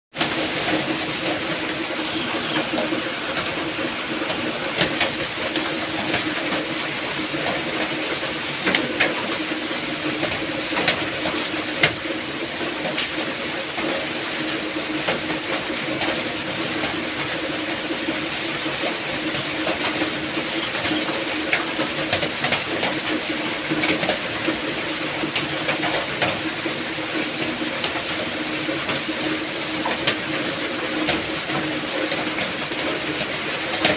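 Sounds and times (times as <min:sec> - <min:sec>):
raindrops ticking: 0:00.1 - 0:33.9.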